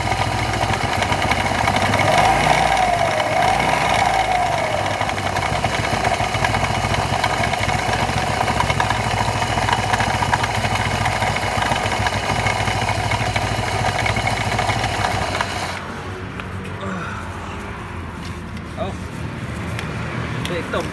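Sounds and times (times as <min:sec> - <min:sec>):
scooter engine idling: 0:00.0 - 0:19.2.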